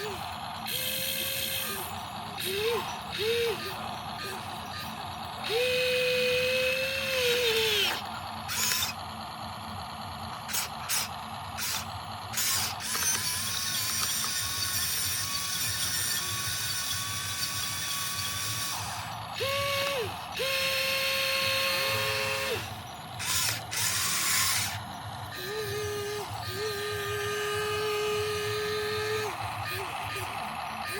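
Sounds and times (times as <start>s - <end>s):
toy excavator motors whining: 0.0s - 30.9s.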